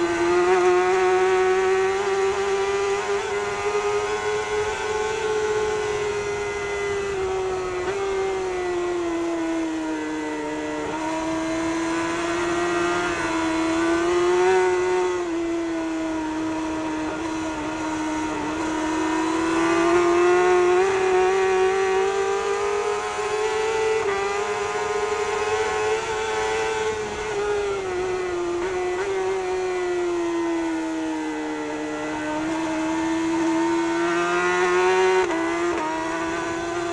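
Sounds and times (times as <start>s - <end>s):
motorcycle engine at high revs: 0.0s - 36.9s.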